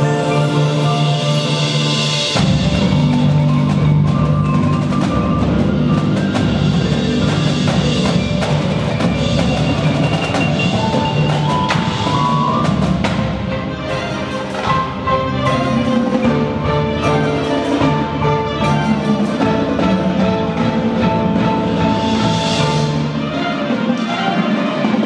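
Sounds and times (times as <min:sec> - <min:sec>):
marching band playing: 0:00.0 - 0:25.0
percussion hits: 0:00.0 - 0:25.0.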